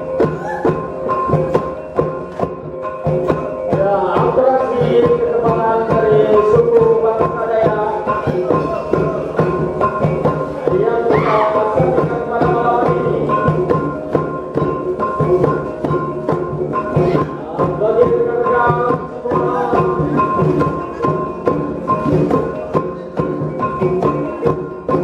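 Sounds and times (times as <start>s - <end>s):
drums in fast steady beat: 0.0s - 25.0s
ringing pitched percussion notes: 0.0s - 25.0s.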